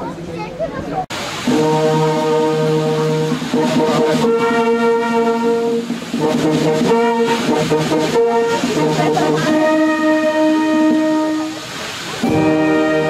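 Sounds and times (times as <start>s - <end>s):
brass band playing chords: 1.1s - 13.0s.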